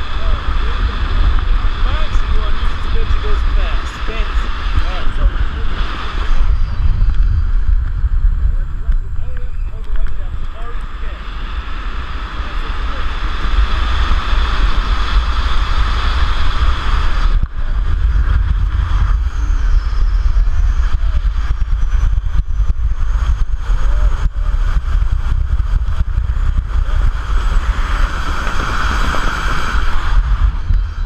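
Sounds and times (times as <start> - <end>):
wind buffeting camera microphone: 0.0 - 31.0.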